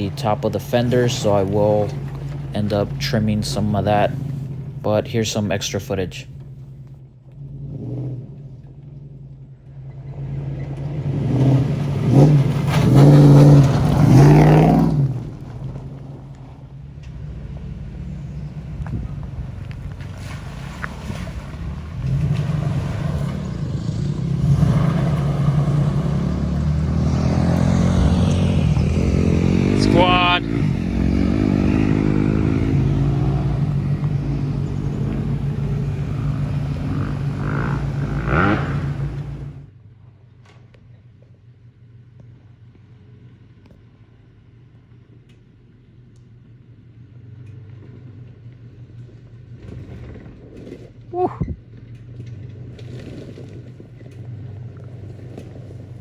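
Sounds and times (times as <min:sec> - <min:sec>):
car engine running under load: 0:00.0 - 0:56.0.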